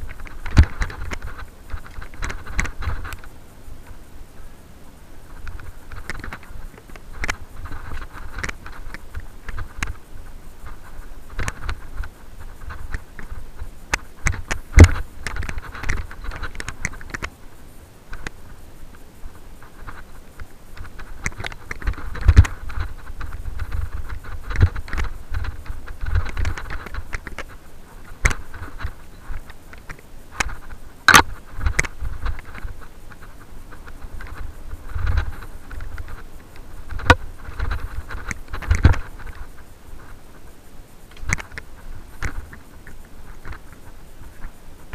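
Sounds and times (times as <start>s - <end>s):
bike rattling and clicking: 0.0s - 4.1s, 5.2s - 44.9s
tyre noise on dirt: 0.0s - 44.9s.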